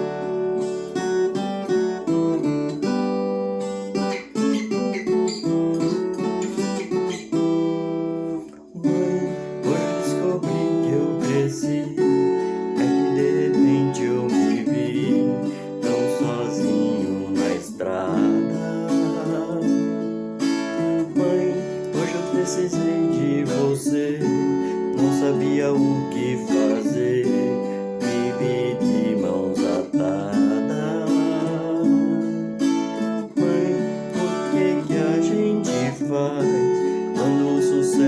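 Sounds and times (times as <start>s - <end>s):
plucked guitar melody with strummed chords: 0.0s - 38.0s.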